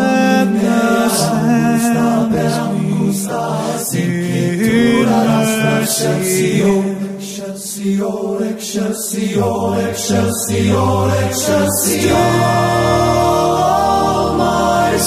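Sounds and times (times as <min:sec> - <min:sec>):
choral singing: 0:00.0 - 0:15.0.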